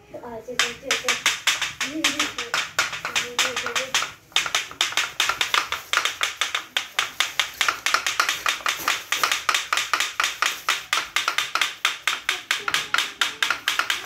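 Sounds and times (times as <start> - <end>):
wooden mask jaws clacking: 0.6 - 14.0.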